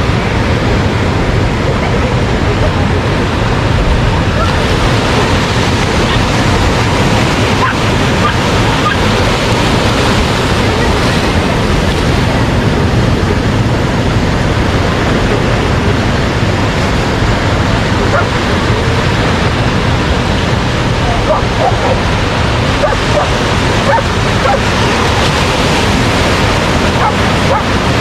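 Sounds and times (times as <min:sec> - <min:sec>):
ocean waves breaking: 0:00.0 - 0:28.0.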